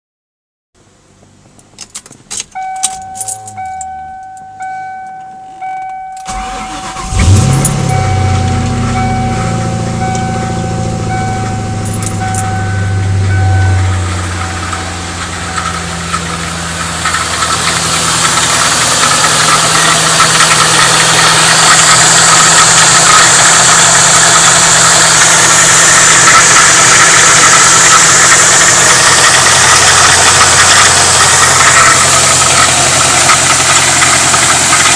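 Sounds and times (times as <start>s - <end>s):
car engine running: 0.8s - 34.9s
engine rattle: 1.1s - 34.9s.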